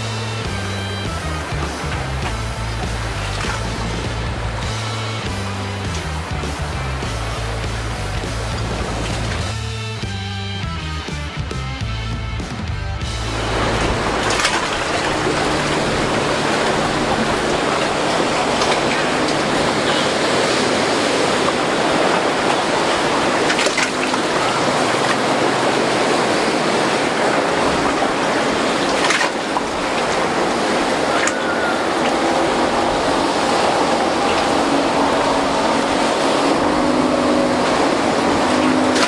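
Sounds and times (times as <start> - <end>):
sharp water splashes: 0.0 - 9.7, 13.0 - 39.0
waves and whitewater rushing: 0.0 - 10.2, 13.0 - 39.0.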